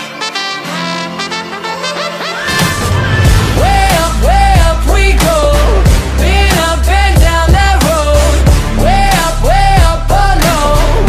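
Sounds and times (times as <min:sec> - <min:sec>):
song with heavy bass: 0:01.8 - 0:11.0.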